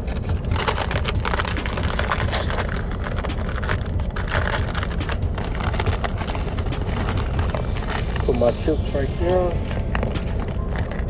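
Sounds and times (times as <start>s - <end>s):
food packaging crinkling: 0.0s - 11.0s
truck engine idling: 0.0s - 11.0s.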